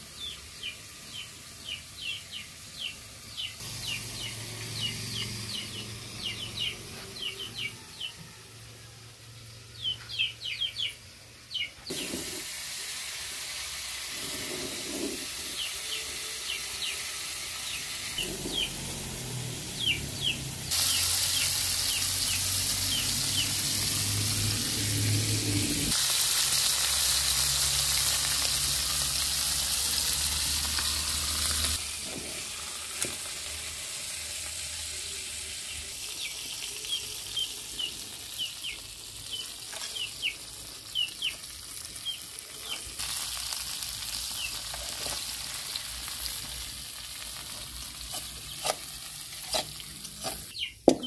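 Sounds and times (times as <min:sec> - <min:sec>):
fish sizzling in hot oil: 0:00.0 - 0:06.8, 0:11.9 - 0:50.6.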